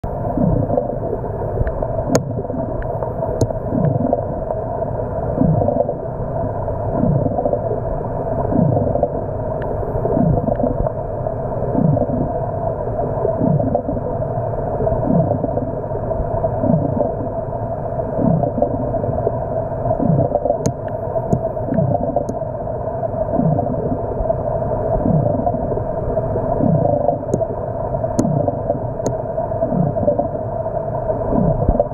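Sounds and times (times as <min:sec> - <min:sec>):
muffled underwater hum: 0:00.0 - 0:31.9.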